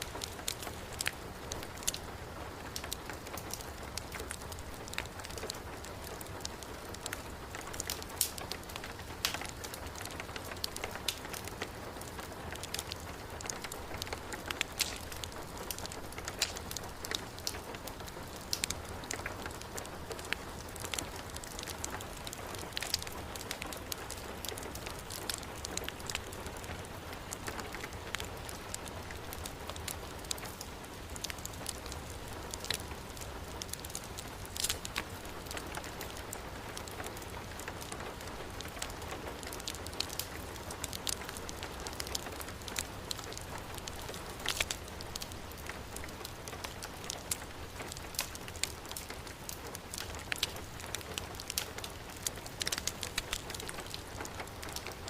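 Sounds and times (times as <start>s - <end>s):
heavy rain: 0.0s - 55.0s
wood fire crackling and popping: 0.0s - 55.0s.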